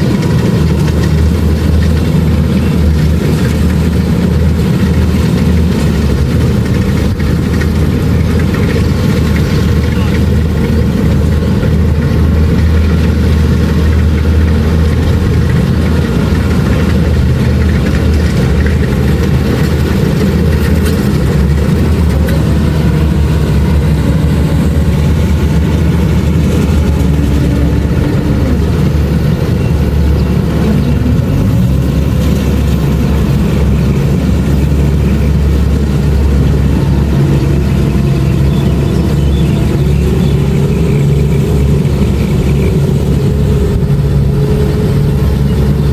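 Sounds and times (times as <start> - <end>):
diesel engine humming: 0.0 - 45.9.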